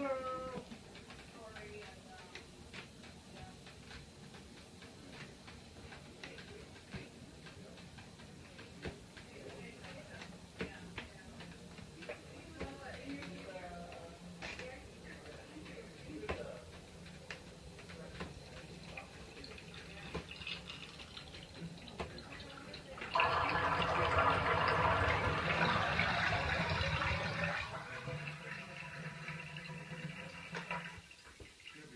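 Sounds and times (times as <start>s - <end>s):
tub jets humming: 0.0s - 31.9s.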